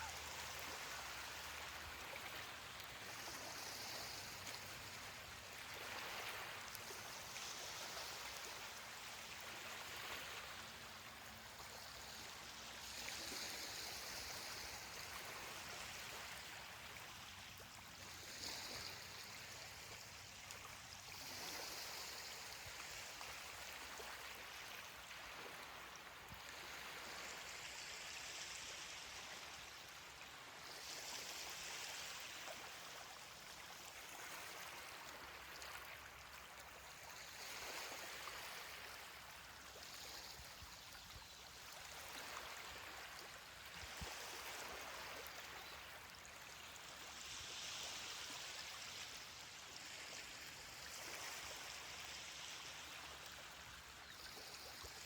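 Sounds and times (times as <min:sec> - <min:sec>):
ocean waves breaking on a beach: 0:00.0 - 0:55.0.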